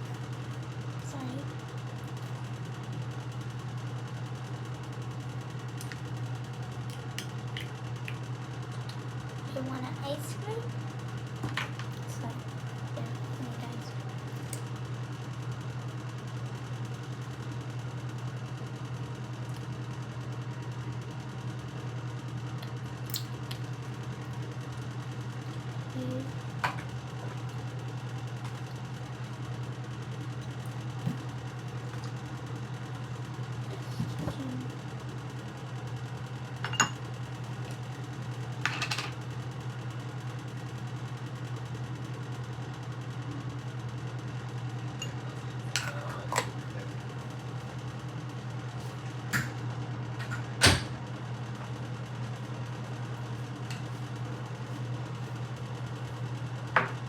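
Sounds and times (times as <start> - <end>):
appliance humming: 0.0 - 57.0.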